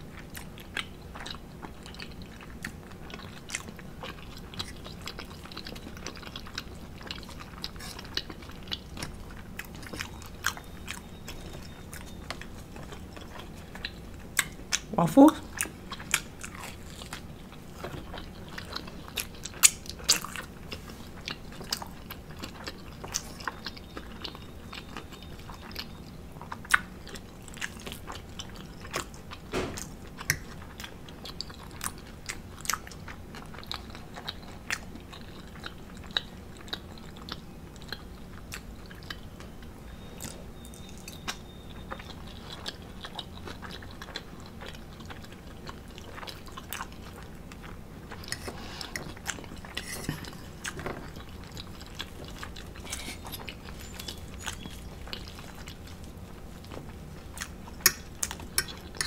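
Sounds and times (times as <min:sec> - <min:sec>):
low room hum: 0:00.0 - 0:59.0
person chewing and smacking: 0:00.0 - 0:59.0.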